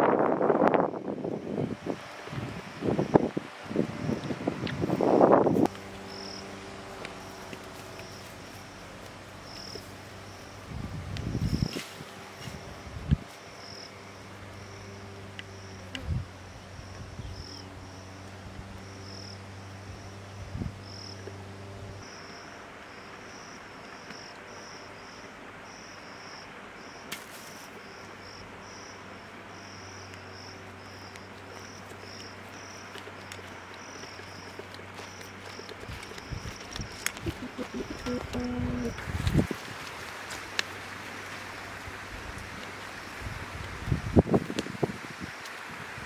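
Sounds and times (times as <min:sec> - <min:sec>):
outdoor background hiss: 0:00.0 - 0:46.0
insect chirping: 0:02.5 - 0:06.6, 0:07.2 - 0:21.2, 0:22.0 - 0:41.9.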